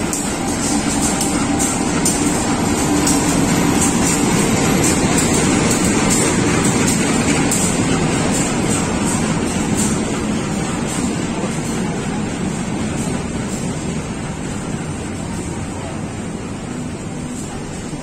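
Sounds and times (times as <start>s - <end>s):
diesel locomotive passing: 0.0s - 18.0s
train carriages rumbling: 0.0s - 18.0s
train wheel clicks: 0.0s - 18.0s.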